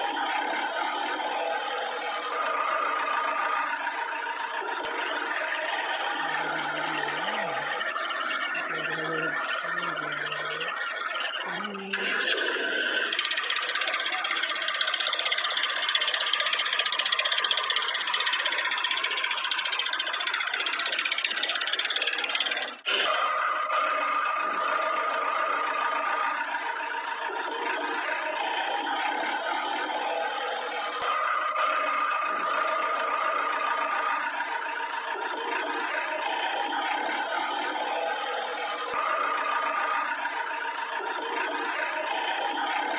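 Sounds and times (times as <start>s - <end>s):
constant whine: 0.0s - 42.9s
vehicle motor rattling: 0.0s - 42.9s.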